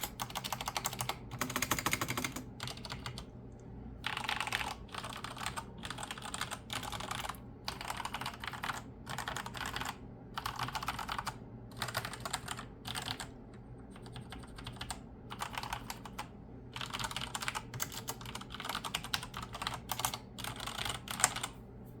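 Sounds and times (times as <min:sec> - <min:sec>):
mechanical keyboard typing: 0:00.0 - 0:03.3, 0:04.0 - 0:13.3, 0:13.9 - 0:21.6.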